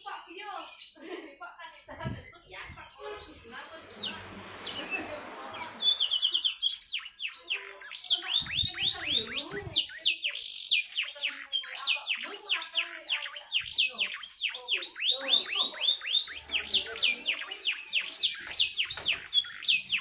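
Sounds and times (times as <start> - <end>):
canary singing: 0.0 - 1.0, 2.0 - 20.0.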